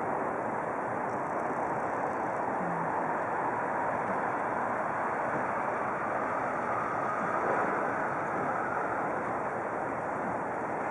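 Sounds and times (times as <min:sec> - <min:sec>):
rushing water: 0:00.0 - 0:10.9
wind: 0:00.0 - 0:10.9.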